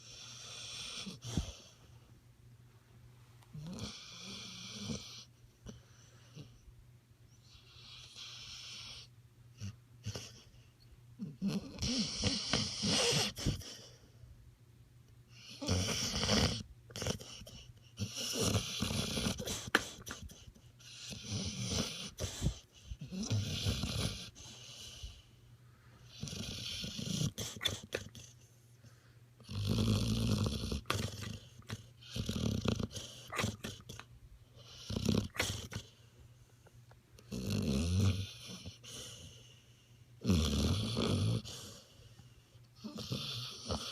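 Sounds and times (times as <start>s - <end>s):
dog snoring: 0.0s - 1.9s, 3.6s - 6.6s, 7.4s - 10.6s, 11.2s - 14.0s, 15.3s - 25.2s, 26.0s - 28.4s, 29.4s - 36.0s, 37.2s - 43.9s.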